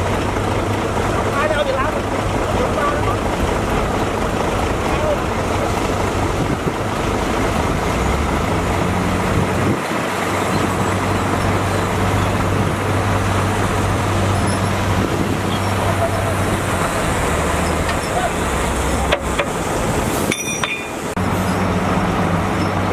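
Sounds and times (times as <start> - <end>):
diesel engine droning: 0.0 - 22.9.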